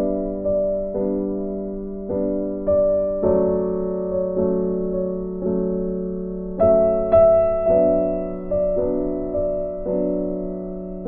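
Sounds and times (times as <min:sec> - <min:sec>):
gentle piano piece: 0:00.0 - 0:11.0.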